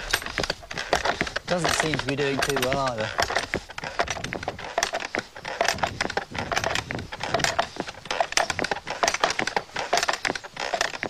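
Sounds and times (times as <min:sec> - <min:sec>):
wooden bellows clattering: 0:00.0 - 0:11.0.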